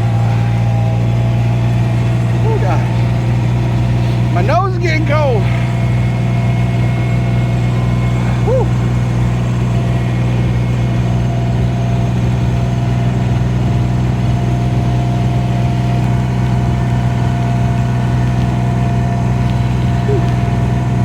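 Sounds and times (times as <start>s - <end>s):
diesel engine droning: 0.0s - 21.0s
faint steady whine: 0.0s - 21.0s.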